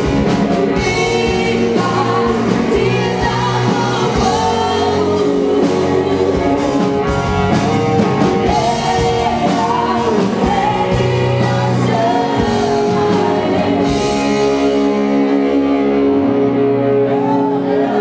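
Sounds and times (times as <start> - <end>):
voices singing: 0.0 - 18.0
worship band playing: 0.0 - 18.0.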